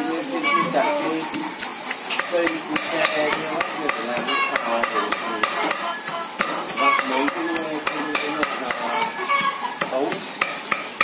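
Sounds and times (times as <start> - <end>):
cleavers chopping on wooden block: 2.2 - 11.0.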